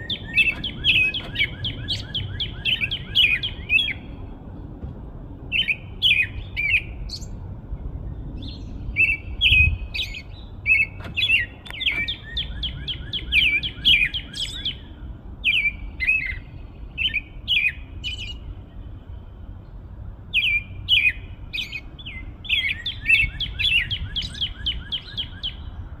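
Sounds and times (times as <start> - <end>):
birds chirping: 0.0 - 4.4, 5.5 - 26.0.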